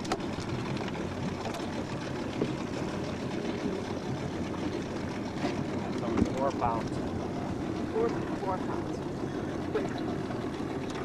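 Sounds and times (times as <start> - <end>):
boat motor running: 0.0 - 11.0
wind and water noise: 0.0 - 11.0.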